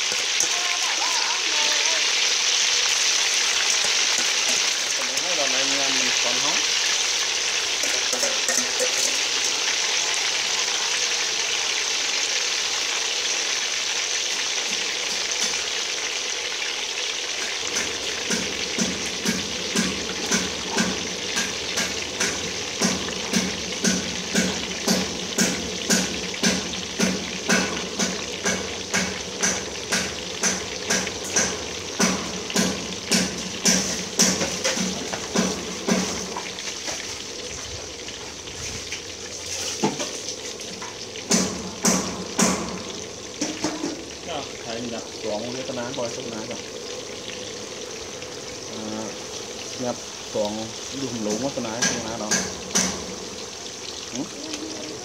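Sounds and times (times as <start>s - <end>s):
food deep-frying in oil: 0.0s - 55.0s.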